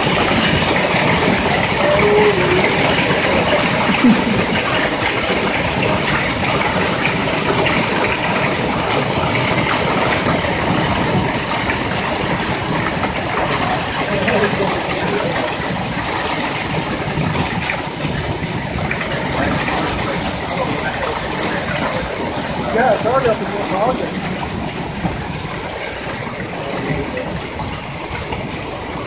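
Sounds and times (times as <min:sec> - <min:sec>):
hailstones ticking: 0:00.0 - 0:29.0
heavy rain hissing: 0:00.0 - 0:29.0.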